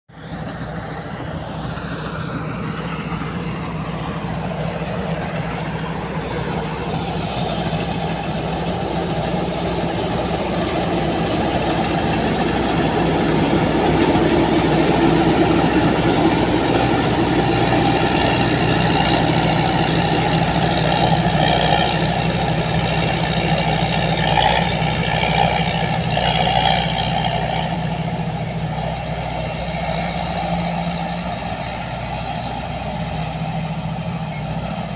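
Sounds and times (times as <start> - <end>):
combine harvester engine drone: 0.1 - 34.9.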